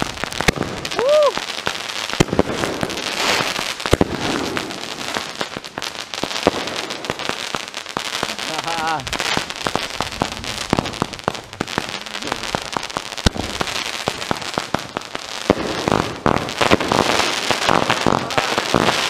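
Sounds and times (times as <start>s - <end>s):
firework crack: 0.0s - 19.0s
fireworks popping and crackling: 0.0s - 19.0s.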